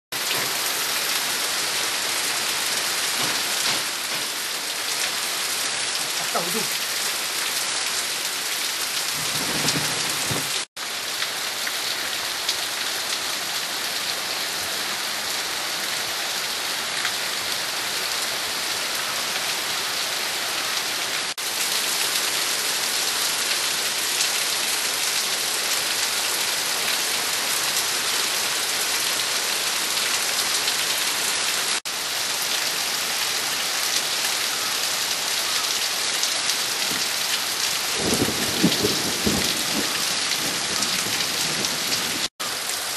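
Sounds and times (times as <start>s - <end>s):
heavy rain pouring: 0.1s - 42.9s.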